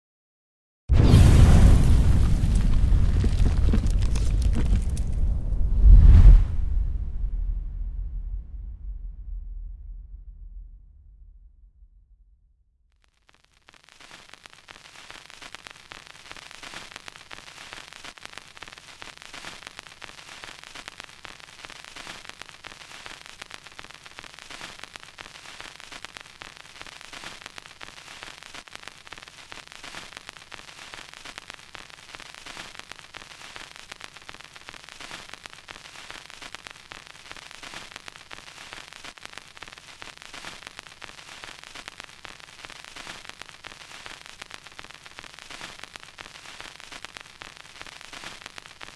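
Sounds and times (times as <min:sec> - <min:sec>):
vinyl record crackle: 0:00.9 - 0:06.6, 0:12.9 - 0:48.9.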